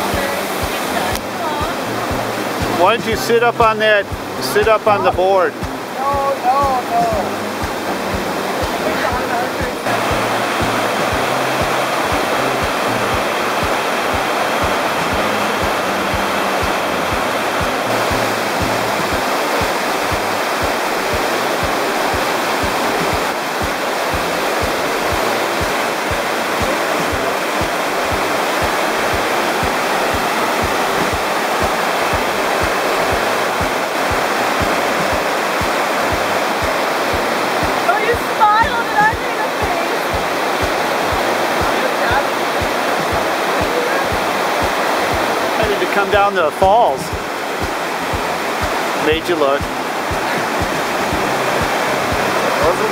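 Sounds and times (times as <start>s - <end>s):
waterfall rushing over rock: 0.0s - 52.9s.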